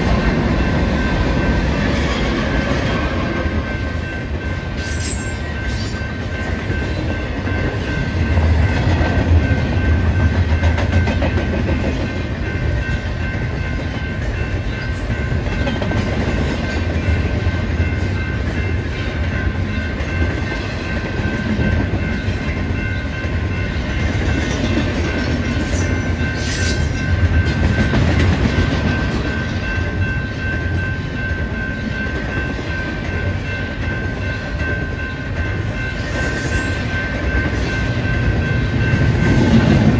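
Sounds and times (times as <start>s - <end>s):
freight train wheels rumbling: 0.0s - 39.9s
train cars clanking: 0.0s - 39.9s.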